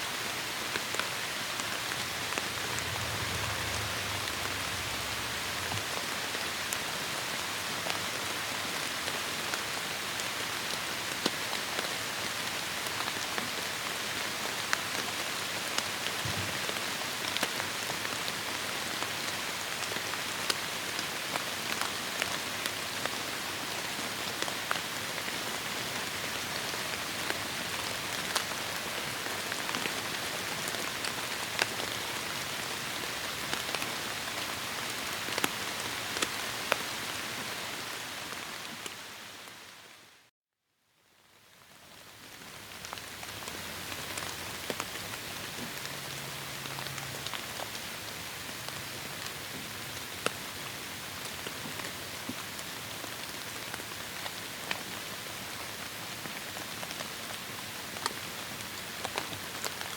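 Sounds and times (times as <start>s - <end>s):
heavy rain on foliage: 0.0s - 40.3s, 41.0s - 59.9s.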